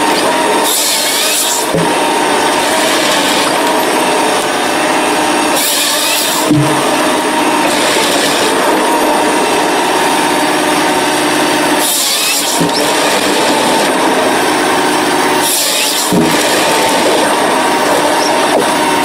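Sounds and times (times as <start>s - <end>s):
forestry machine running: 0.0s - 19.0s
high-pitched saw cut: 0.0s - 19.0s.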